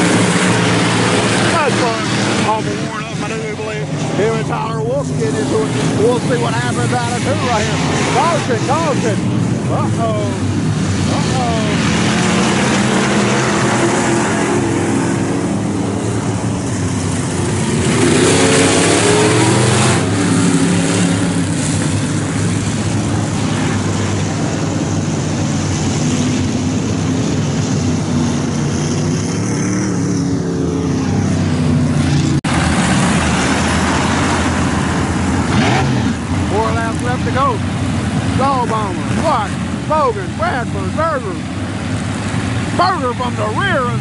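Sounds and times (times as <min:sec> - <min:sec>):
race car engines passing: 0:00.0 - 0:44.0.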